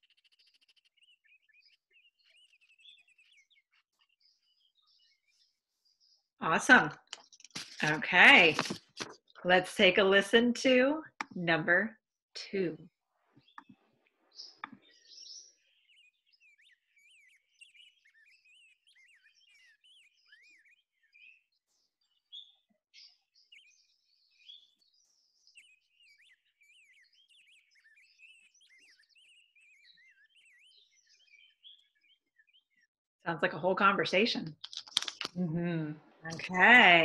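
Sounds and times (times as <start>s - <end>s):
songbird chirps and warbles: 0.0s - 37.0s.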